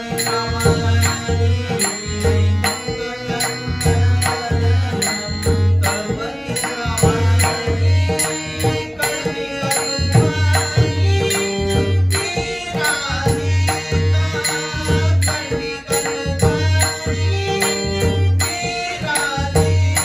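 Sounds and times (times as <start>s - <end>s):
devotional music with singing: 0.0s - 20.0s
held instrumental tones: 0.0s - 20.0s
person singing wavering melody: 0.0s - 20.0s.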